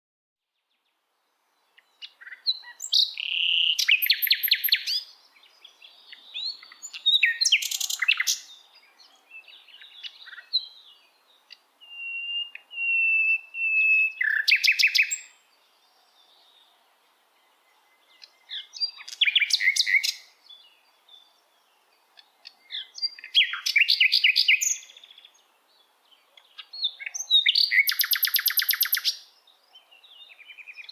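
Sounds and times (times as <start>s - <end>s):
songbirds trilling and chirping: 0.4s - 30.9s.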